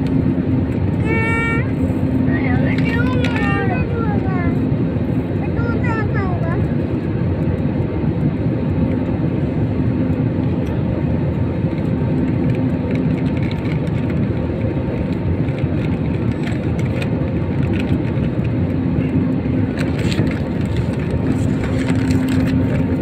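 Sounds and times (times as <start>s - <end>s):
jet engines and airflow rumble: 0.0s - 23.0s.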